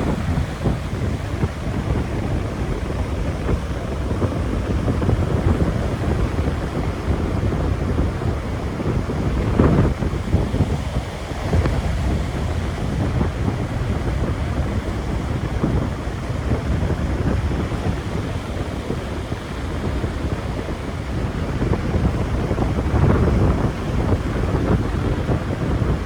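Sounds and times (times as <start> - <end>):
ocean surf: 0.0 - 26.0
wind buffeting microphone: 0.0 - 26.0.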